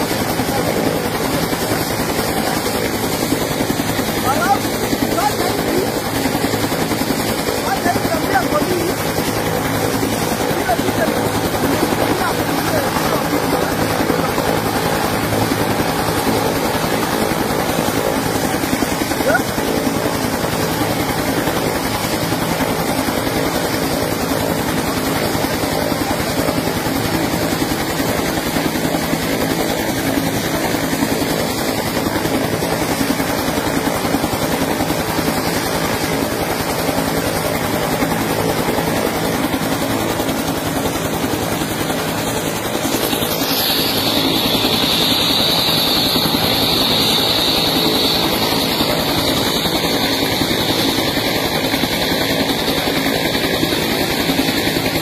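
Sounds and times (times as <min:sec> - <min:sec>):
helicopter rotor chop: 0:00.0 - 0:55.0.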